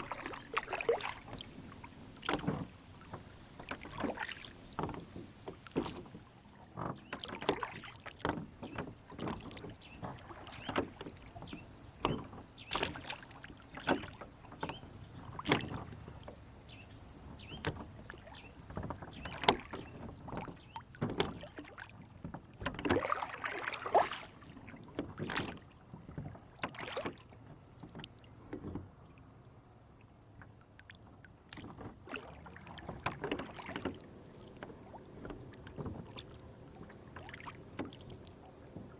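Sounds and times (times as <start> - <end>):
water splashing against boat hull: 0.0 - 29.2, 30.4 - 38.9.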